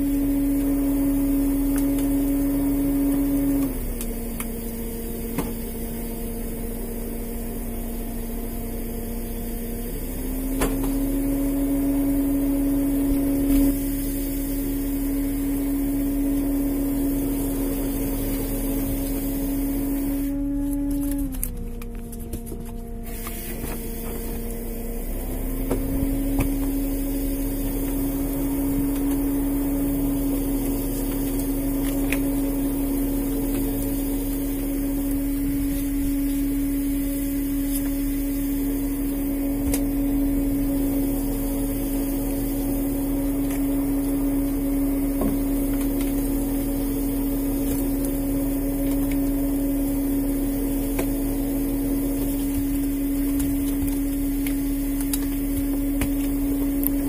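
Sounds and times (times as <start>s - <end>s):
boat machinery humming: 0.0s - 57.0s.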